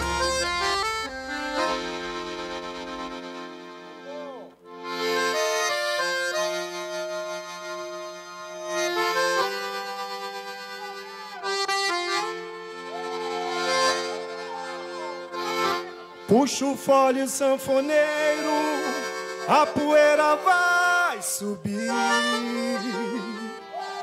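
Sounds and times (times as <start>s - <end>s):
accordion playing chords: 0.0s - 24.0s.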